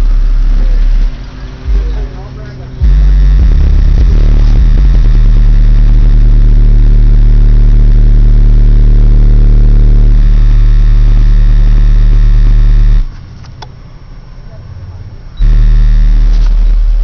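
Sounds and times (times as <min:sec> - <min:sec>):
subwoofer deep bass tone: 0:00.0 - 0:14.4, 0:15.3 - 0:17.0.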